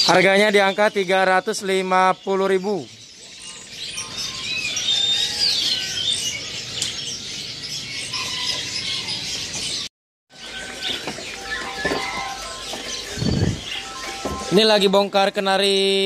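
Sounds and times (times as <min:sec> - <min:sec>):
canaries chirping and singing: 0:00.0 - 0:16.0.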